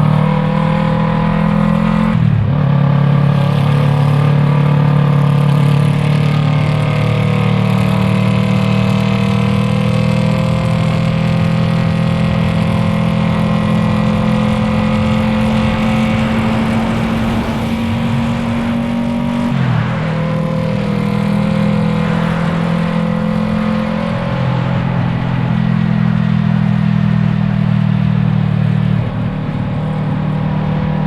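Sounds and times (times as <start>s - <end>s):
motorcycle engine revs climbing: 0.0s - 31.0s.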